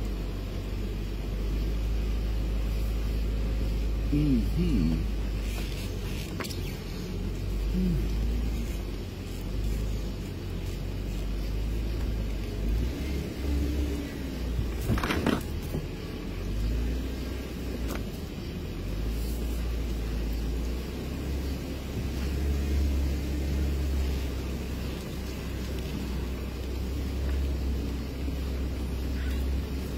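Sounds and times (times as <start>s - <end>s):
vehicle engine rumbling: 0.0s - 29.9s.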